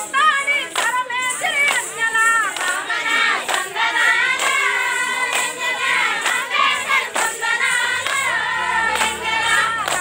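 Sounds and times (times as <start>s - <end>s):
group singing a folk song: 0.0s - 10.0s.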